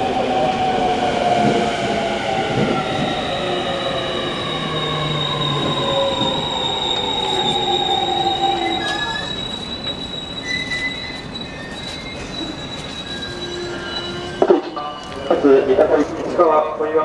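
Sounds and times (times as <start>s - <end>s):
train wheel squeal: 2.0s - 16.5s.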